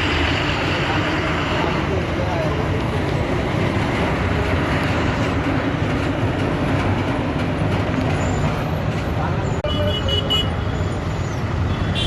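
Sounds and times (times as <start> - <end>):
heavy road traffic rumble: 0.0 - 12.0.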